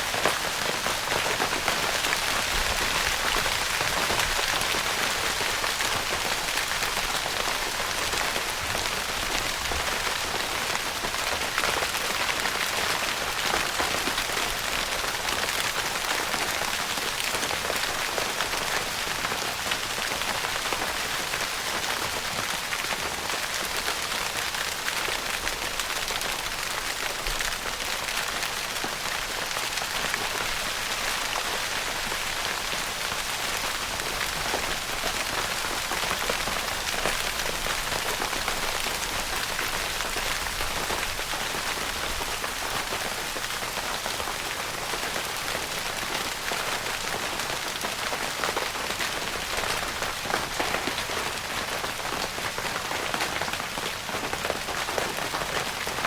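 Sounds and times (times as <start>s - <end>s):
rain pattering on tent fabric: 0.0s - 56.0s.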